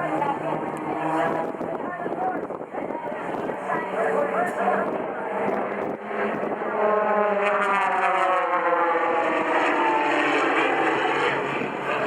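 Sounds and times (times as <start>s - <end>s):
aircraft engine flying past: 0.0s - 12.0s.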